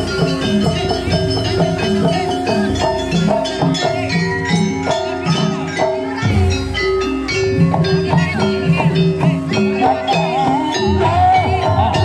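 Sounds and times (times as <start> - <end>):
drums playing: 0.0 - 12.0
struck metallophones: 0.0 - 12.0.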